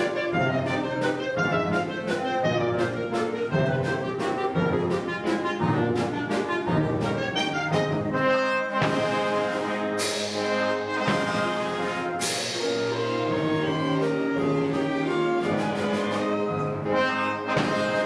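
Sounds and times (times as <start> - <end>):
orchestra playing a waltz: 0.0 - 18.0.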